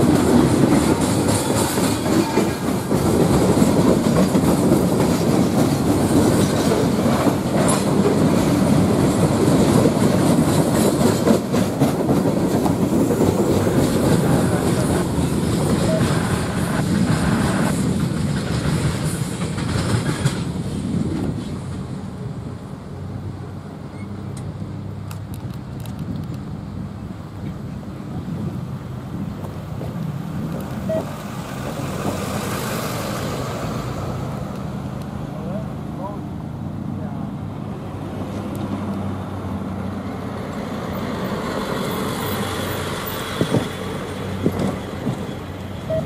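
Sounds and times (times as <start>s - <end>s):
freight cars rolling on rails: 0.0s - 46.0s.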